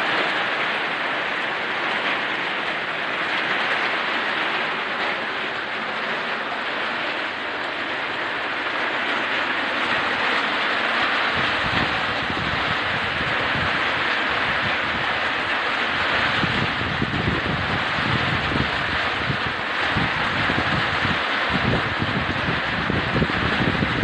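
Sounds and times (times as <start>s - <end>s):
heavy rain: 0.0s - 24.0s
wind: 0.0s - 24.0s.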